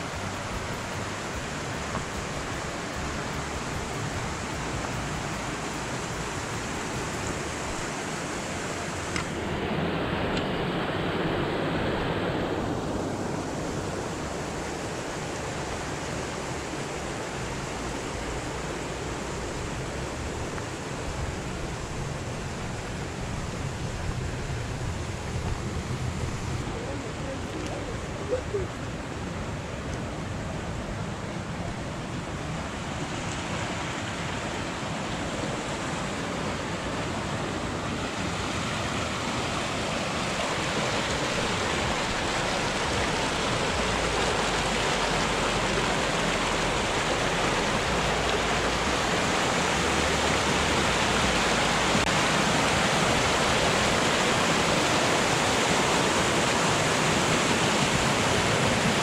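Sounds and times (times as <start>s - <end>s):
river rushing over cascades: 0.0s - 59.0s.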